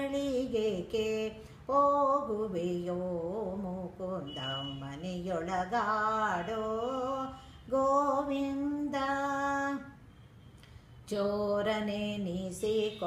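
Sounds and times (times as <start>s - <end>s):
woman singing unaccompanied: 0.0s - 10.0s, 11.0s - 13.0s.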